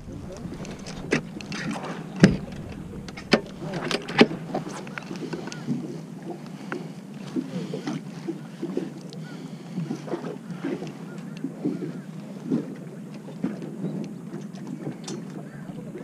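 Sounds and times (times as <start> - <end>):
boat engine hum: 0.0 - 16.0.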